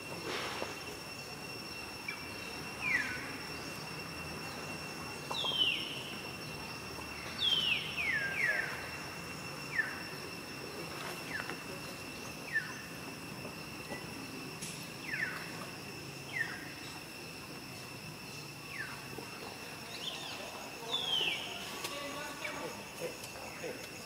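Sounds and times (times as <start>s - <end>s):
steady high hum: 0.0s - 24.0s.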